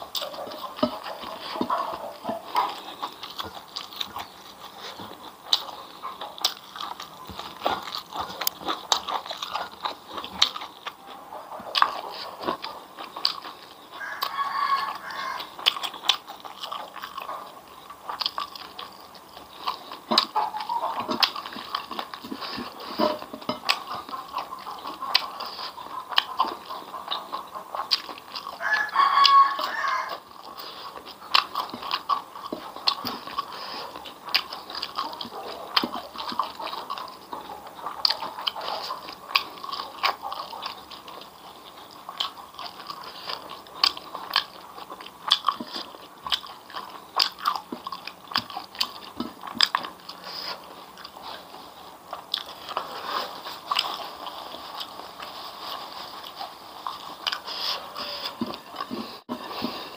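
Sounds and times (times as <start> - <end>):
crunchy bites and chewing: 0.0 - 59.9.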